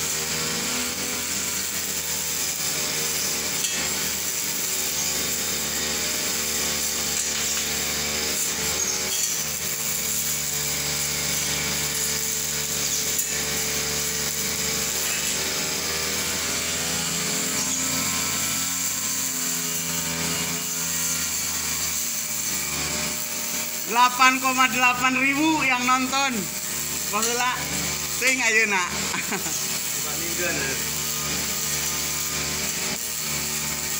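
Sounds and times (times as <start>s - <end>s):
brush cutter engine cutting grass: 0.0s - 33.9s.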